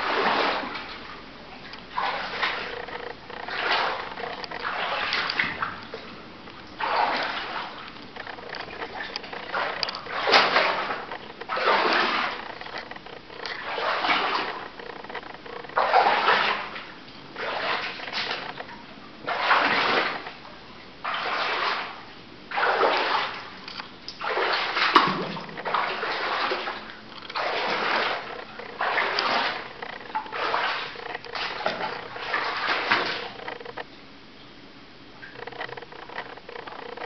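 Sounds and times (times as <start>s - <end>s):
footsteps wading through water: 0.0s - 33.8s.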